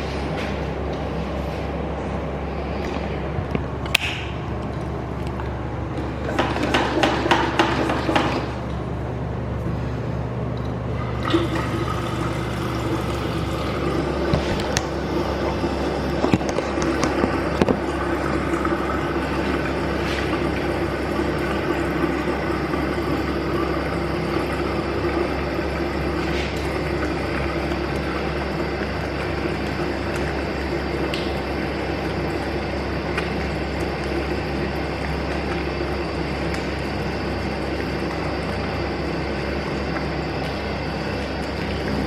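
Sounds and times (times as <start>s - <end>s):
water rushing through plumbing: 0.0s - 42.0s.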